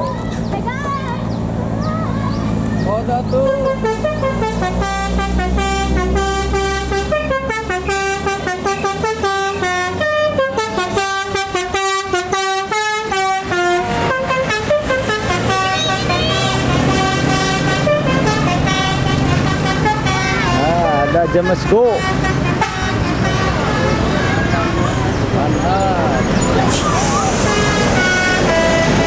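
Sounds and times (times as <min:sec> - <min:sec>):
bus engine running: 0:00.0 - 0:29.0
multi-tone bus horn melody: 0:01.8 - 0:29.0.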